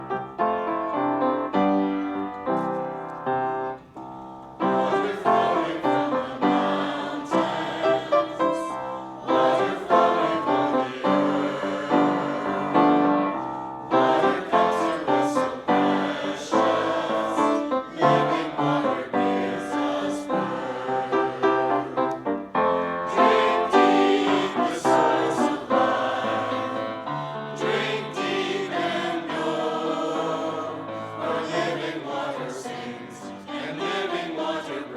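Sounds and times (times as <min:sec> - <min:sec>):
church choir singing: 0:00.0 - 0:34.9
piano accompaniment: 0:00.0 - 0:34.9.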